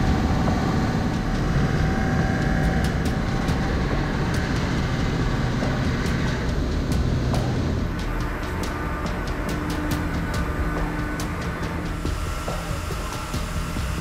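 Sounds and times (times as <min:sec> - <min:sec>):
circular saw cutting metal: 0:00.0 - 0:14.0.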